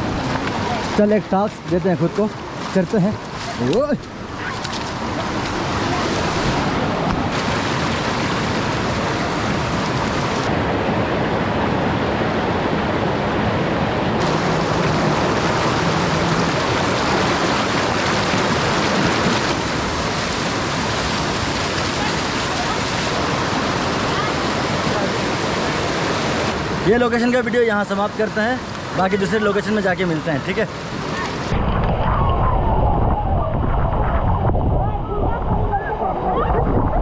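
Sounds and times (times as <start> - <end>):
river rushing over rocks: 0.0 - 31.6.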